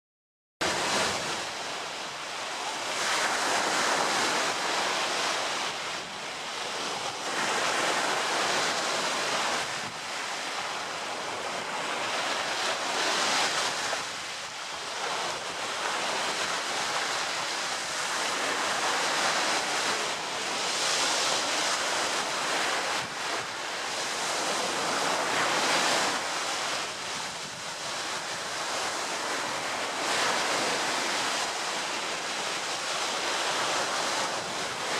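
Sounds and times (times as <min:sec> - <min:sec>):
ocean waves washing onto shore: 0:00.6 - 0:34.9.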